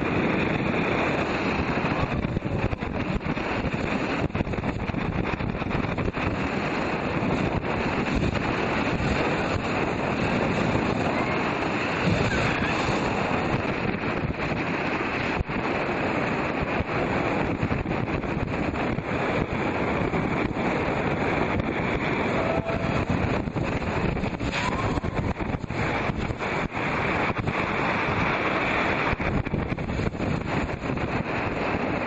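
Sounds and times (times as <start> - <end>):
rapids rushing: 0.0 - 32.0
speedboat engine running: 0.0 - 32.0
wind buffeting microphone: 0.0 - 32.0.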